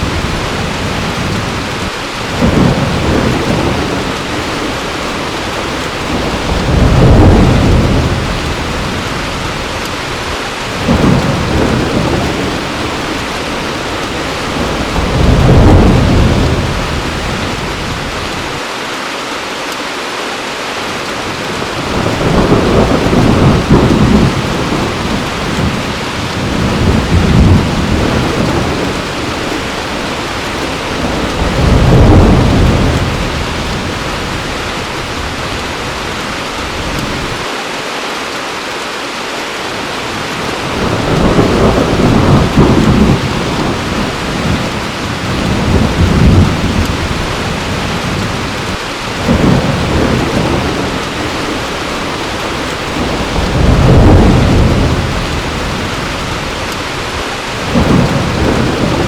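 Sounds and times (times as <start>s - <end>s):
low thunder rumbling: 0.0s - 18.6s, 21.3s - 37.5s, 40.2s - 59.0s
heavy rain pouring: 0.0s - 59.0s.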